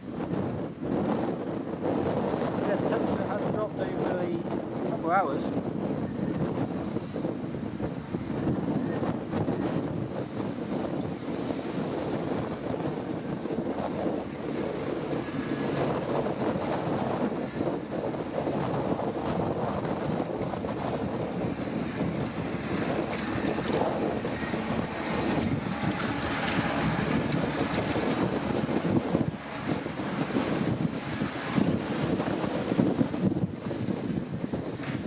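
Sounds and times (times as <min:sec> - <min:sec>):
wind buffeting microphone: 0:00.0 - 0:35.0
tractor engine drone: 0:06.5 - 0:35.0.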